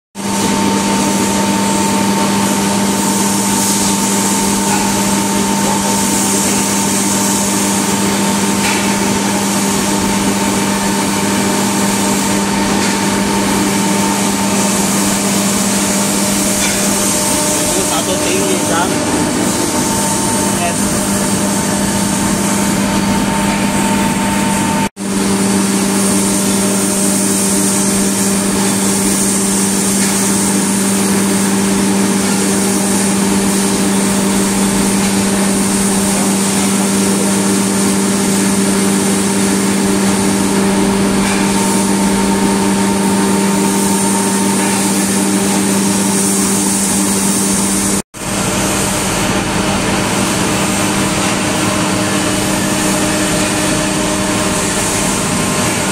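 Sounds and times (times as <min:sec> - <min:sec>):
air compressor humming: 0:00.2 - 0:55.9.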